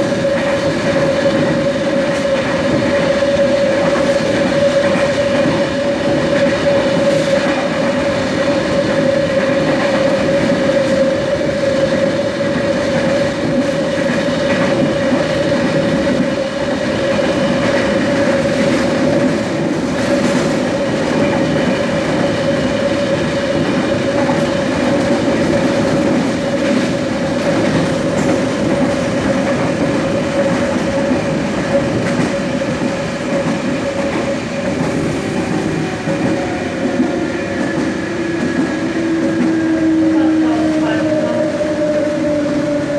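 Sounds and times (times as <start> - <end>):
wheels rumbling on track: 0.0 - 42.9.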